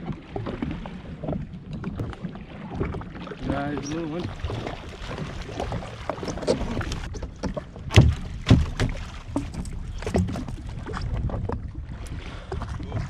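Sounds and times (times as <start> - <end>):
water slapping against hull: 0.0 - 13.0.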